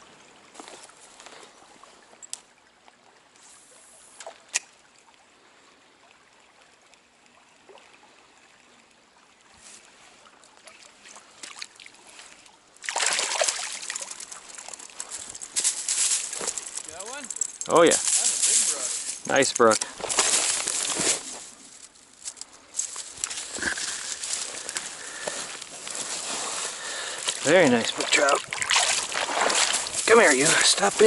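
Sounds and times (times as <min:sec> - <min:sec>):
stream running faintly: 0:00.0 - 0:31.0.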